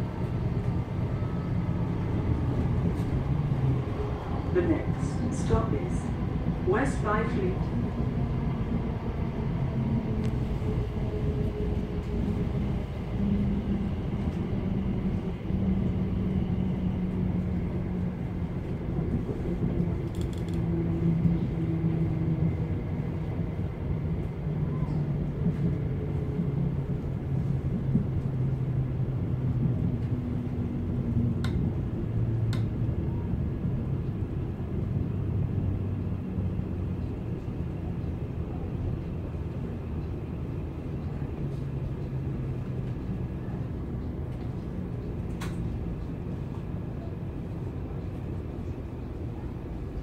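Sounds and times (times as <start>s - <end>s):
train running gear rumble: 0.0s - 50.0s.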